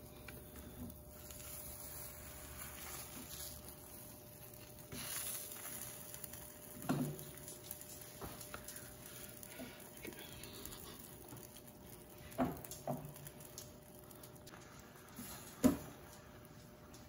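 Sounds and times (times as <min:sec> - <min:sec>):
egg sizzling on griddle: 0:00.0 - 0:17.0.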